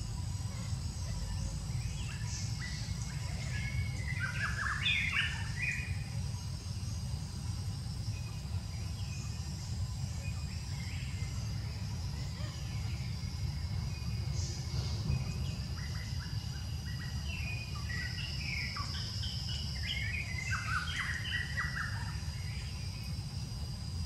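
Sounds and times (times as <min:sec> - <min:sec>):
high insect drone: 0:00.0 - 0:24.0
low background rumble: 0:00.0 - 0:24.0.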